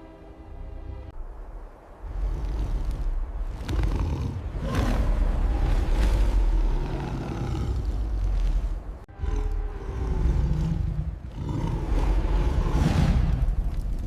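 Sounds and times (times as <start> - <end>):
deep rumble: 0.8 - 14.0
big cat roaring and growling: 2.1 - 13.6.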